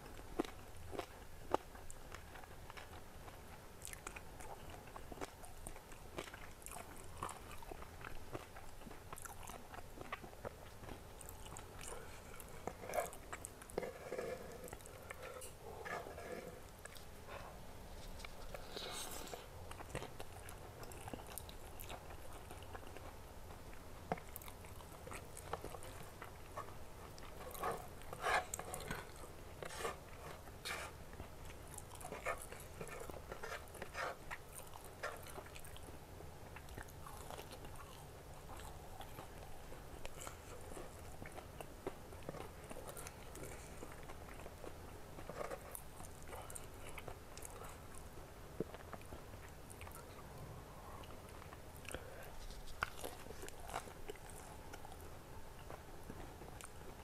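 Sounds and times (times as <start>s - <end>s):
person chewing and crunching food: 0.0s - 57.0s.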